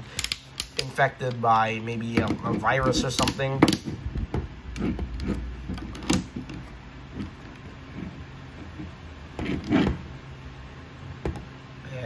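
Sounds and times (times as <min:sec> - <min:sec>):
steady low hum: 0:00.0 - 0:12.0
handling noise: 0:00.2 - 0:10.2.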